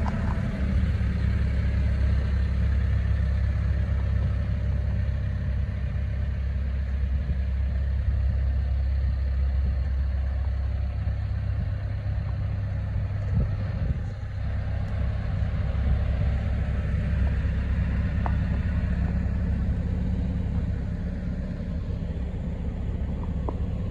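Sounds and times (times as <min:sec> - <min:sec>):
excavator diesel engine idling: 0:00.0 - 0:23.9.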